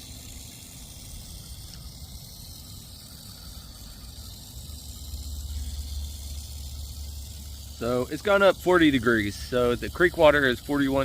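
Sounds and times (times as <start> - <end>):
running water hiss: 0.0 - 11.0.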